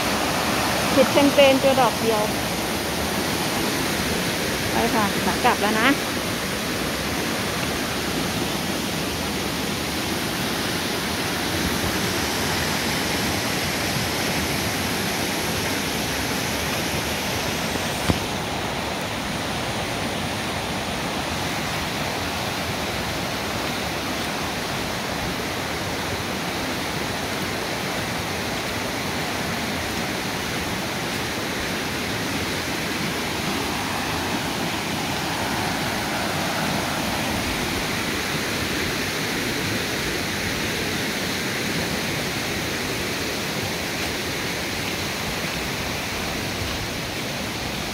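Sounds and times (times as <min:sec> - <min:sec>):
waterfall and stream rushing: 0:00.0 - 0:47.9.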